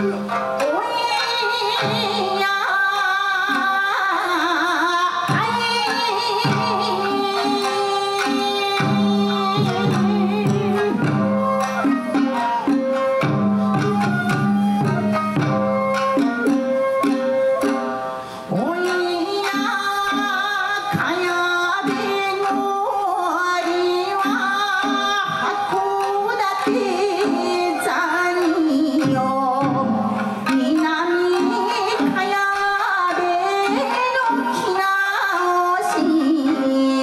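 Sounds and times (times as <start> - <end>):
woman singing: 0.0 - 15.5, 18.5 - 37.0
shamisen ensemble plucking: 0.0 - 37.0.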